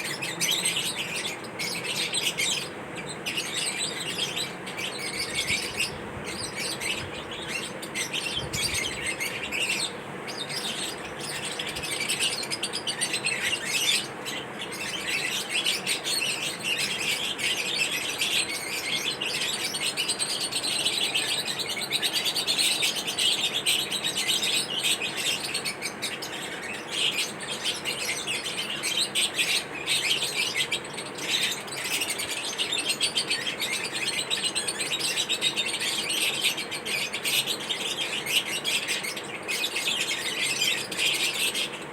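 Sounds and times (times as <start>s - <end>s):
lovebirds chirping rapidly: 0.0s - 41.9s.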